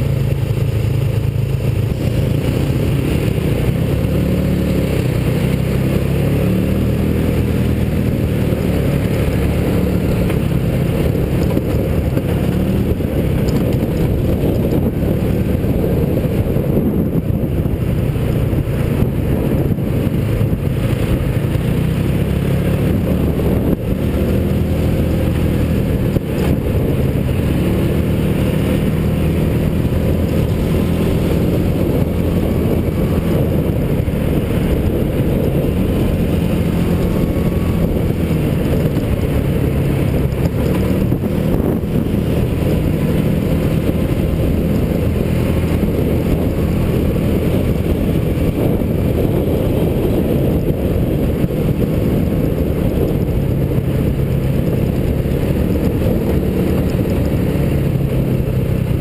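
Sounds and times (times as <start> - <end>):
road and wind noise: 0.0 - 59.0
small engine running steadily: 0.0 - 59.0.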